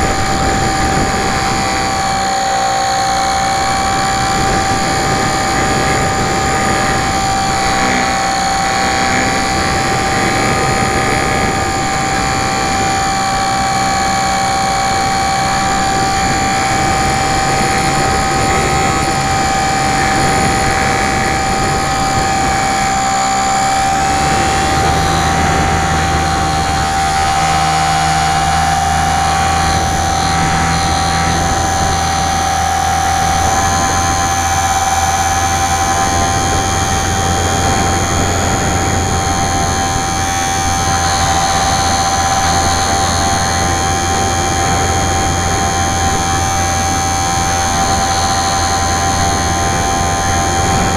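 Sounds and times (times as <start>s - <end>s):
electric motor and propeller whine: 0.0s - 50.9s
rush of air noise: 0.0s - 50.9s.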